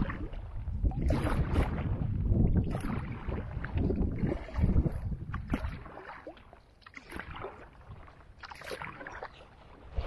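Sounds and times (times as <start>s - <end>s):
paddle splashing in water: 0.0s - 10.0s
water lapping and dripping: 0.0s - 10.0s.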